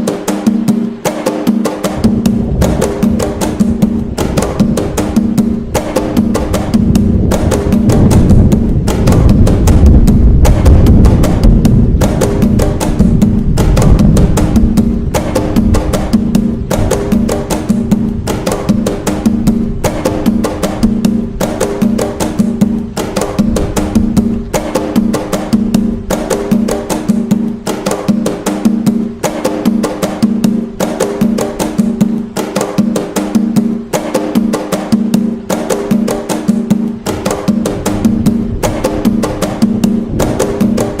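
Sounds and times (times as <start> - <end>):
hand drums playing: 0.0 - 41.0.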